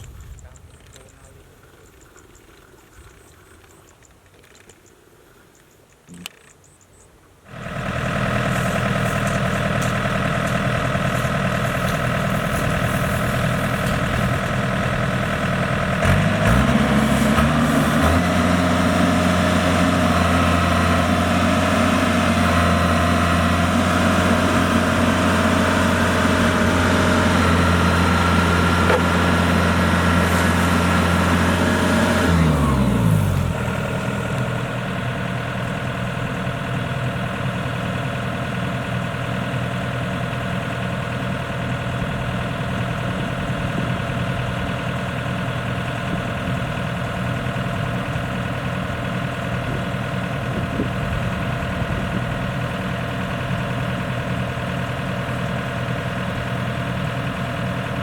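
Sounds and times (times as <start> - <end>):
diesel engine revving: 7.5 - 58.0.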